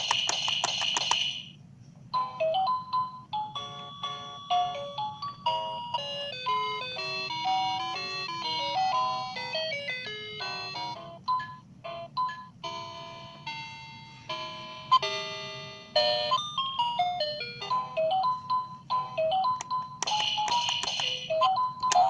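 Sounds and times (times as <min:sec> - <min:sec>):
toy playing beeping electronic tune: 0:02.2 - 0:22.0.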